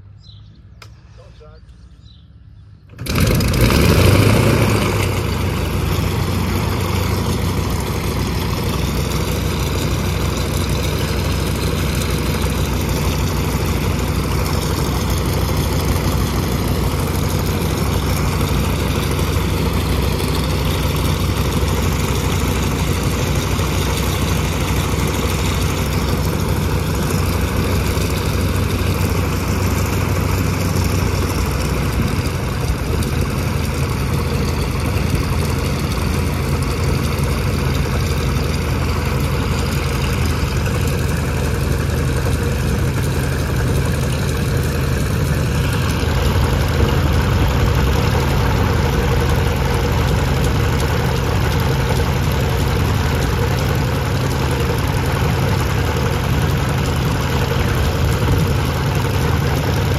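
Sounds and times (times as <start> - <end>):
aircraft piston engine starting: 2.7 - 59.9.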